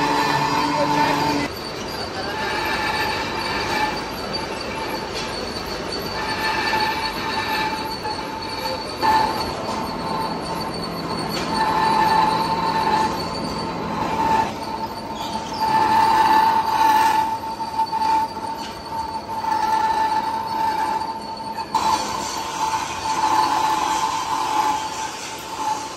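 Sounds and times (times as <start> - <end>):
cutting tool squealing on steel: 0.0 - 25.9
lathe cutting noise: 0.0 - 25.9.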